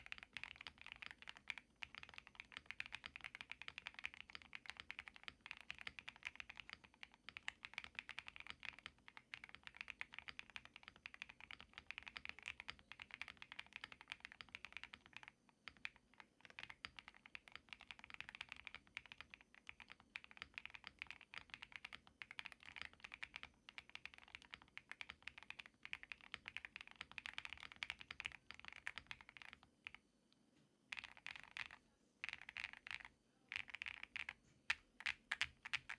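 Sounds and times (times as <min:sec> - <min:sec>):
fast typing on mechanical keyboard: 0:00.0 - 0:30.0, 0:30.9 - 0:35.9.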